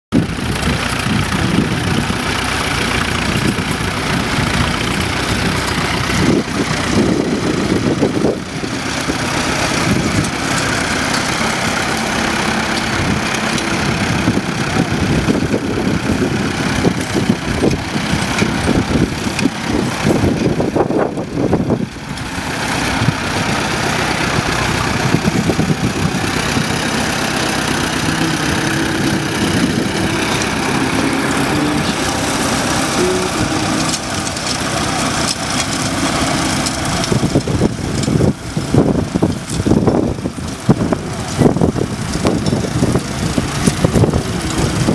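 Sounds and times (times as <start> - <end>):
tractor engine running: 0.1 - 44.9.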